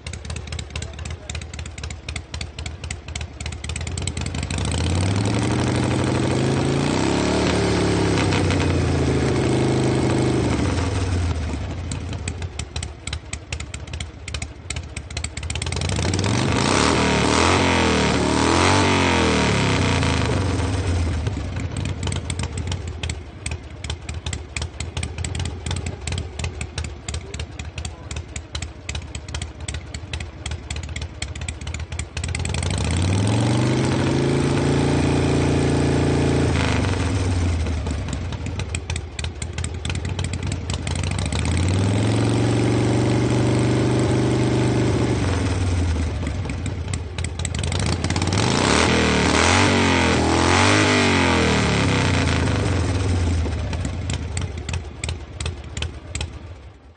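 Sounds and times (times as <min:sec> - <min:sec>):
motorcycle engine idling and revving: 0:00.0 - 0:56.9.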